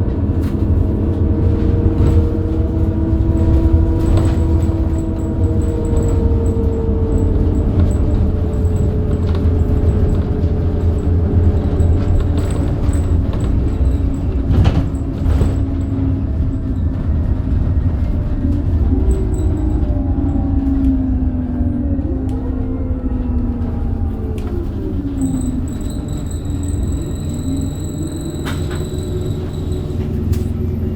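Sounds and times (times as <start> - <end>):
bus engine rumbling: 0.0 - 30.9
drivetrain whine: 0.0 - 30.9.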